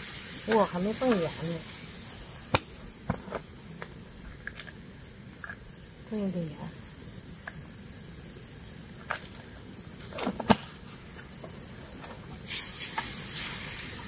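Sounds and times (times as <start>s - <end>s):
pot hissing on stove: 0.0s - 14.0s
stirring and sizzling: 0.0s - 14.0s.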